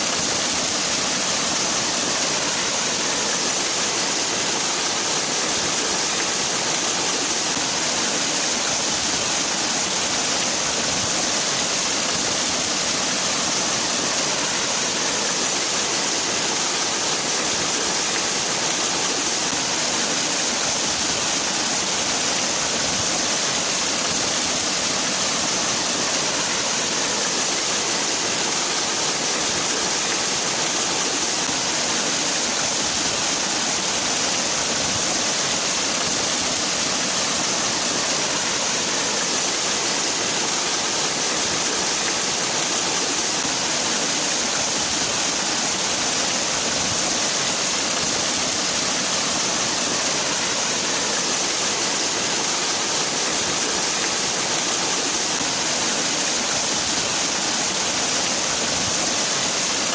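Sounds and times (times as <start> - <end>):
waterfall splashing: 0.0 - 59.9.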